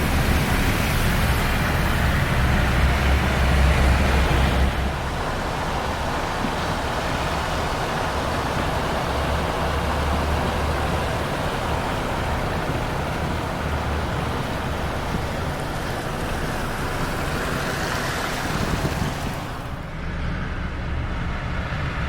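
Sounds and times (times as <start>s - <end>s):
water washing: 0.0s - 20.0s
tyre and road noise: 0.0s - 22.0s.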